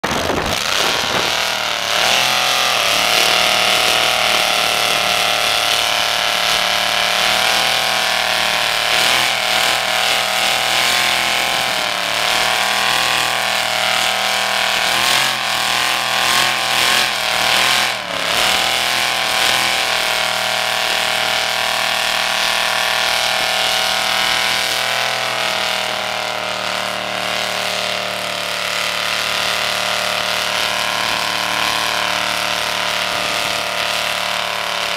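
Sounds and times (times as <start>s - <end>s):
engine revving high: 0.0s - 34.9s.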